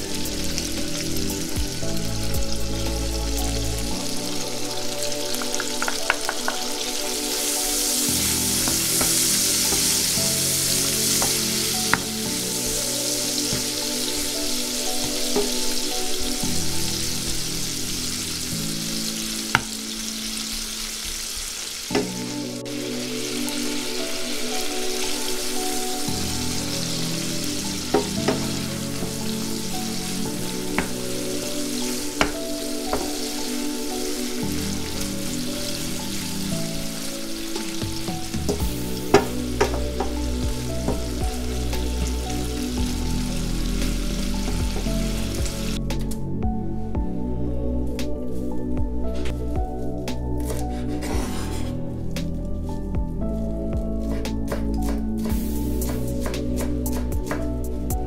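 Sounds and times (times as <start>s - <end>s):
shrimp sizzling in frying pan: 0.0s - 46.4s, 50.0s - 58.0s
soft background music: 0.0s - 58.0s.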